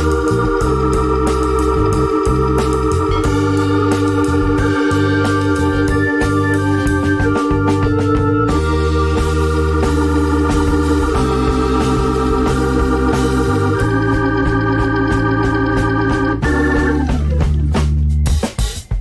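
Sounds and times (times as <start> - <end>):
organ-like chords over bass: 0.0 - 18.7.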